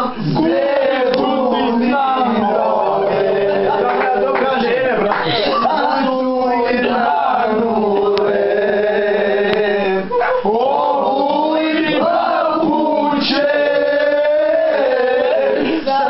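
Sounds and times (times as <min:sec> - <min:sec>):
group singing loudly: 0:00.0 - 0:16.0.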